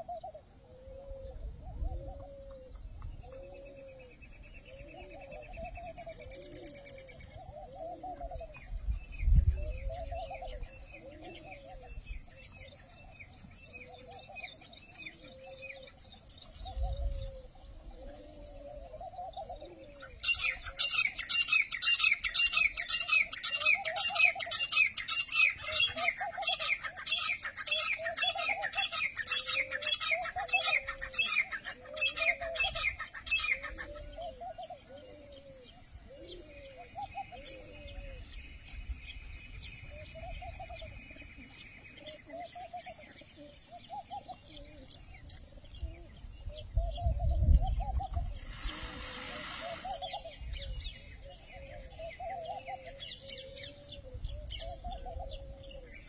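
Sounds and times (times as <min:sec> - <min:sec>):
doves cooing: 0:00.0 - 0:08.9, 0:09.5 - 0:56.0.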